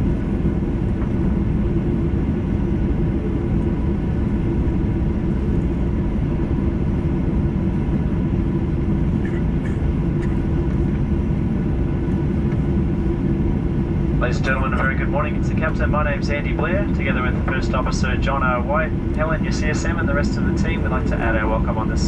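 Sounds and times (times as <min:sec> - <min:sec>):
airliner cabin engine rumble: 0:00.0 - 0:22.0
faint steady whine: 0:00.0 - 0:22.0.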